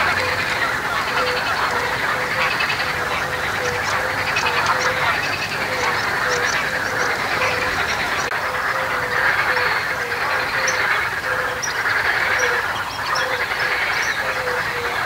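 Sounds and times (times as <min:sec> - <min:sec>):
flock of waterfowl calling: 0:00.0 - 0:15.0.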